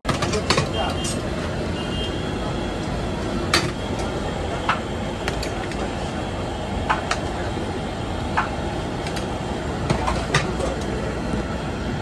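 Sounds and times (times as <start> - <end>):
gas burner roar: 0.0 - 12.0.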